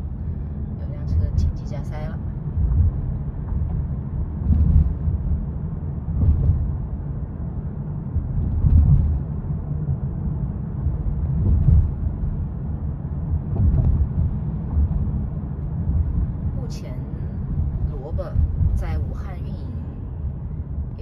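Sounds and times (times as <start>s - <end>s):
road and tyre rumble in car: 0.0s - 21.0s.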